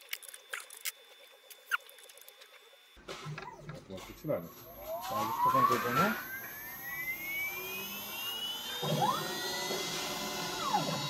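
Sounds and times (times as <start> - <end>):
router spindle whine: 0.0 - 11.0
stepper motors whining: 0.0 - 11.0.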